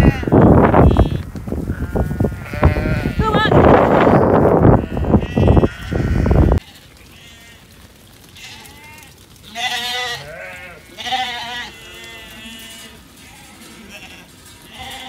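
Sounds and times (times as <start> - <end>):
sheep bleating: 0.0 - 7.7, 8.3 - 15.0.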